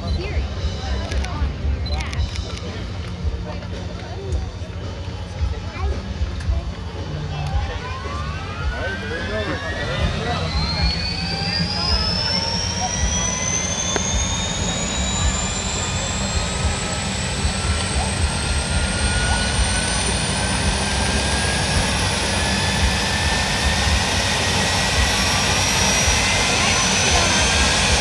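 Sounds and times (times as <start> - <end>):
helicopter turbine whine: 0.0 - 28.0
rotor blades beating: 0.0 - 28.0.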